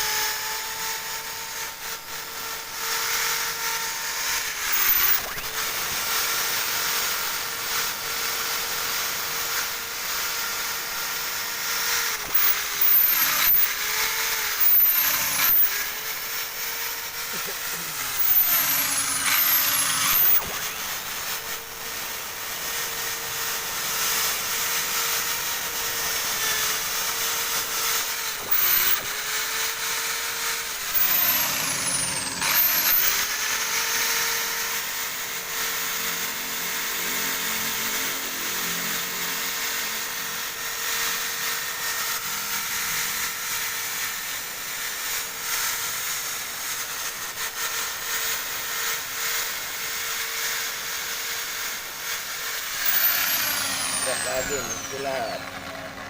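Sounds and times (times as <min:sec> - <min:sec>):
electric drill motor whine: 0:00.0 - 0:56.0.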